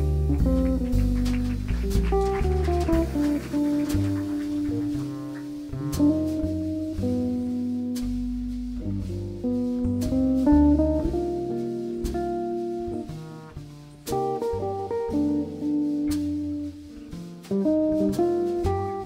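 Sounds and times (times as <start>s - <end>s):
electric jazz guitars: 0.0s - 19.0s
walking upright bass: 0.0s - 19.0s.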